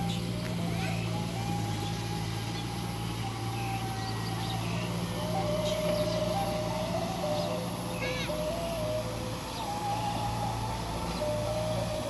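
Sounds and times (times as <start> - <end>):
steady whine: 0.0 - 12.0
tractor diesel engine running: 0.0 - 12.0.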